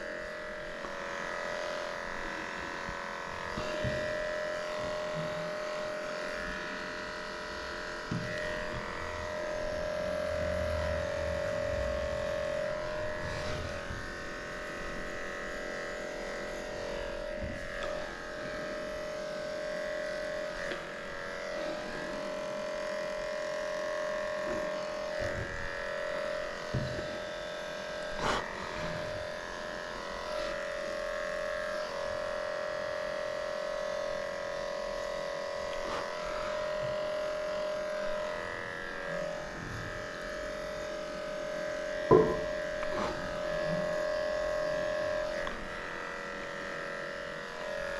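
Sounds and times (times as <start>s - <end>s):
electric clippers buzzing: 0.0s - 47.9s.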